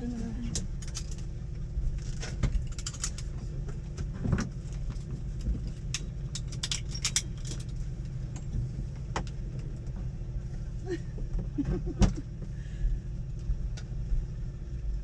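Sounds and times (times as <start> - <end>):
steady low rumble: 0.0 - 15.0
light metallic rattles: 0.2 - 12.4.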